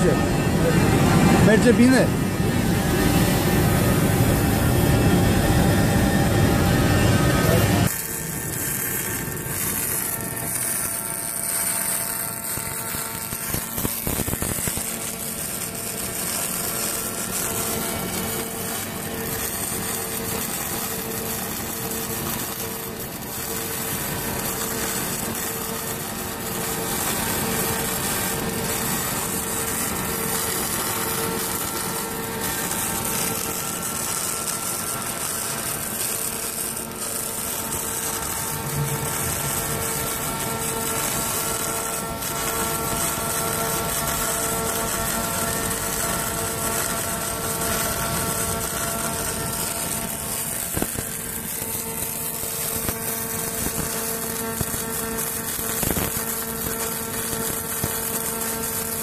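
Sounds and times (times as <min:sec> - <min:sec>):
welding arc hiss: 0:00.0 - 0:59.0.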